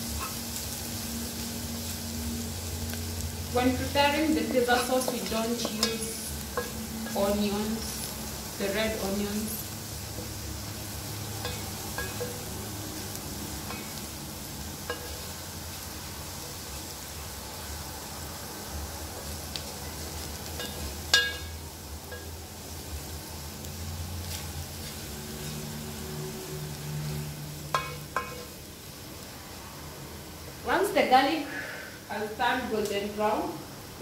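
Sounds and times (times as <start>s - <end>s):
garlic sizzling in oil: 0.0s - 34.0s.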